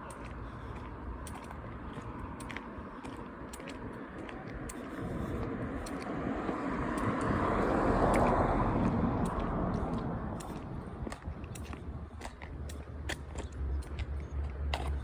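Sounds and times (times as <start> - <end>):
vehicle passing by: 0.0 - 15.0.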